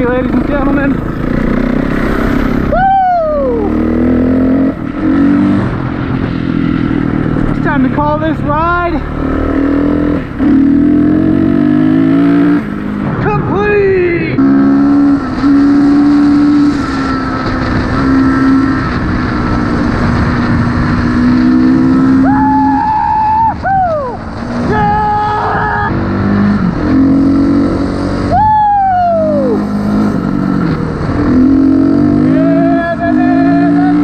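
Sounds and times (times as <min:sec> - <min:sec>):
motorcycle engine revving: 0:00.0 - 0:13.4, 0:14.0 - 0:34.0.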